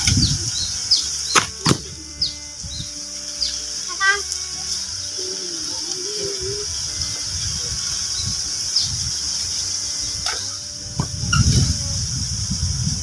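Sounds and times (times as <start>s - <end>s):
wind buffeting microphone: 0.0s - 3.2s, 4.8s - 13.0s
steady high hiss: 0.0s - 13.0s.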